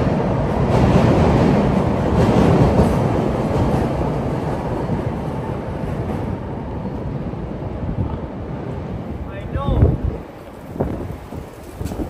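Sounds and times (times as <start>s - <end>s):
elevated train rumbling past: 0.0s - 12.0s.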